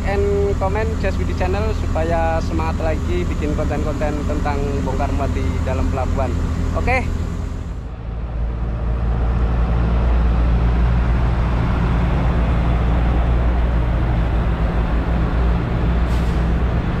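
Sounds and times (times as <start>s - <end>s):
truck diesel engine driving past: 0.0s - 17.0s.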